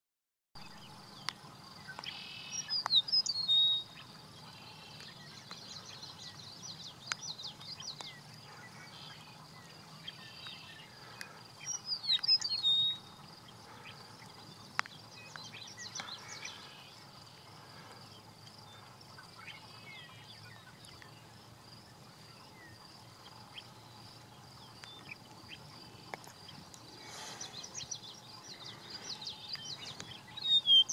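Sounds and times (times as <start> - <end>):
meadowlark singing: 0.6 - 21.4, 22.3 - 30.9
faint chirps: 0.6 - 30.9.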